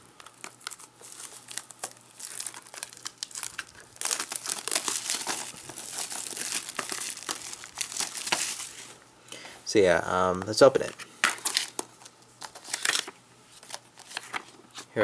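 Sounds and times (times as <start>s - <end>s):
plastic shrink-wrap crinkling: 0.0s - 9.0s, 10.7s - 14.8s.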